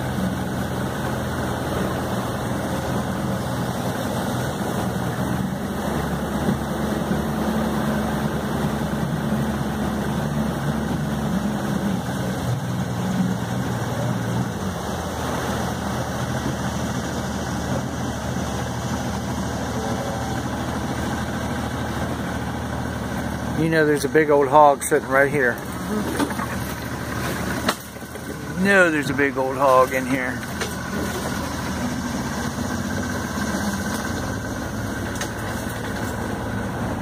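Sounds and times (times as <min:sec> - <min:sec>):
outboard motor droning: 0:00.0 - 0:37.0.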